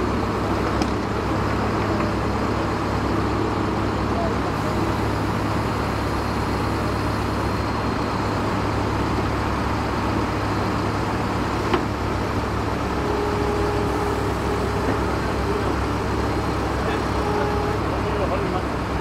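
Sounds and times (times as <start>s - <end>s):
heavy vehicle engines rumbling: 0.0s - 19.0s.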